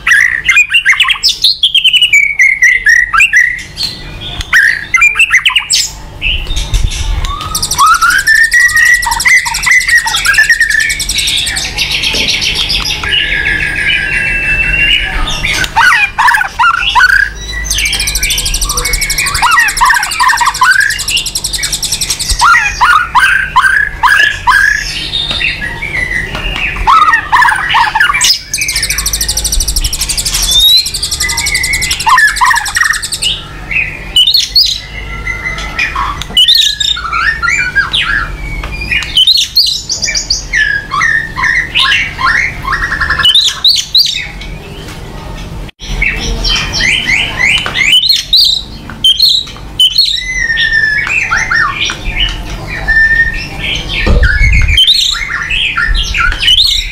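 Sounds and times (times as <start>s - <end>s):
high buzzing bird trill: 0.0s - 44.8s, 45.8s - 56.9s
songbirds singing: 0.0s - 56.9s.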